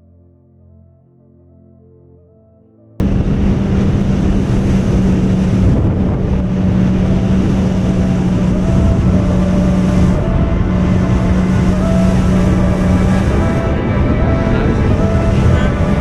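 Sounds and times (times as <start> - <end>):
jet ski engine running: 3.0 - 16.0
wind buffeting microphone: 3.0 - 16.0.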